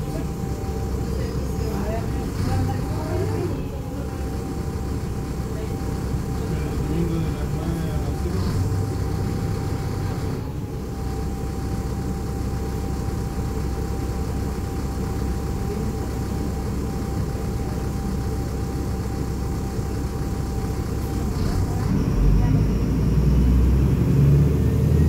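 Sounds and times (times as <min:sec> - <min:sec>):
bus diesel engine idling: 0:00.0 - 0:25.0.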